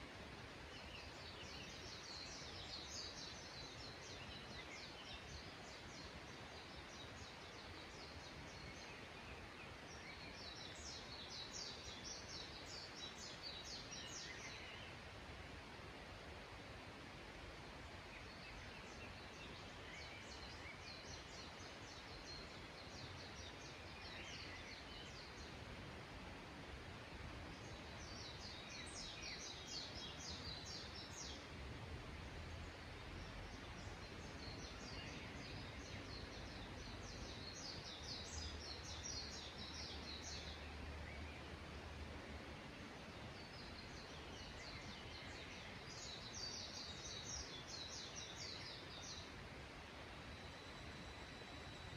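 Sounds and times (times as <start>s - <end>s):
steady background hiss: 0.0s - 51.9s.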